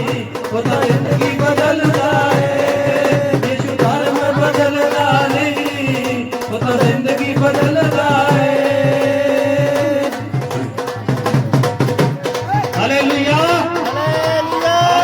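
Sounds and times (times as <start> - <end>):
steady drum beat: 0.0 - 15.0
worship song music: 0.0 - 15.0.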